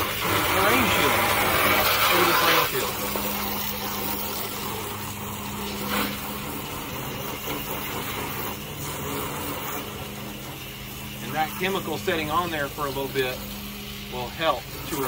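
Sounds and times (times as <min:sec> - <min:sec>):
hose spraying water on metal: 0:00.0 - 0:15.0
steady low hum: 0:00.0 - 0:15.0.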